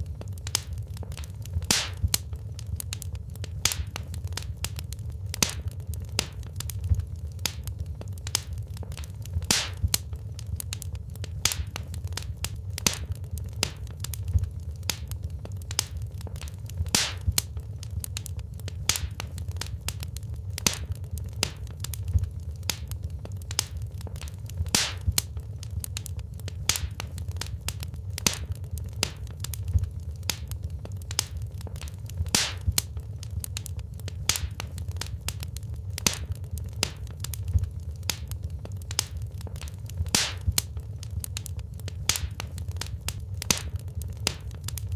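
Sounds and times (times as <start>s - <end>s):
low rumble of flames: 0.0s - 44.9s
wood fire crackling: 0.0s - 44.9s.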